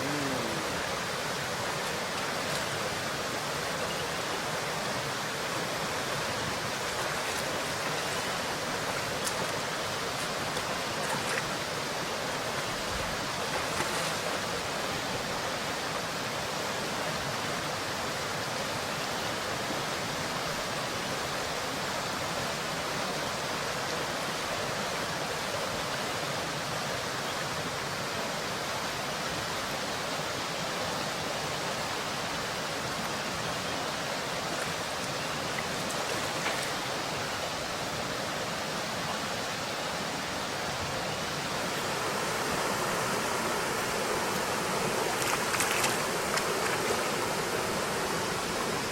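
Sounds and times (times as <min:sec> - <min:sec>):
river water flowing: 0:00.0 - 0:48.9.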